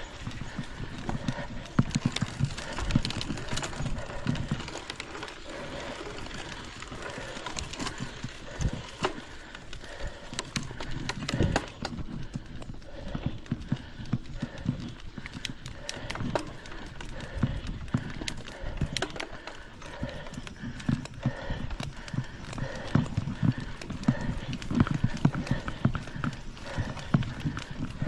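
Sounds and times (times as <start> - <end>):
footsteps on forest trail: 0.0 - 28.0.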